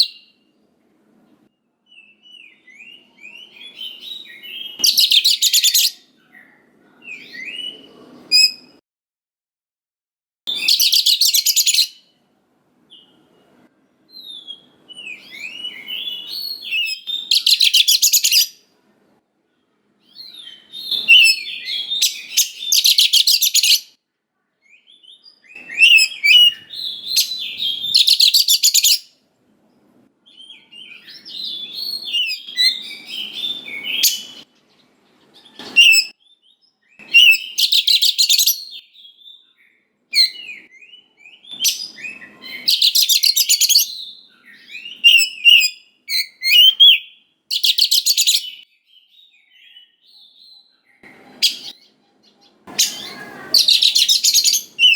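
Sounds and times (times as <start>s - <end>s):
magpie-robin singing: 0.0s - 0.3s, 1.9s - 8.8s, 10.5s - 12.0s, 14.1s - 18.6s, 20.0s - 24.0s, 24.7s - 29.1s, 30.3s - 34.4s, 35.4s - 54.9s.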